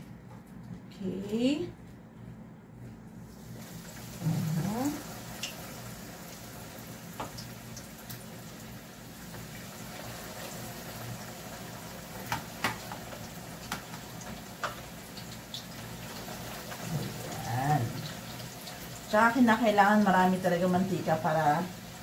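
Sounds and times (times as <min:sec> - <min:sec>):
food frying in hot oil: 0:03.3 - 0:22.0.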